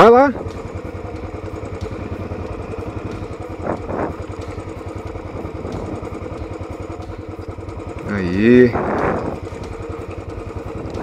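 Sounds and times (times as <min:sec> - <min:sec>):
motorcycle engine thumping: 0:00.0 - 0:11.0.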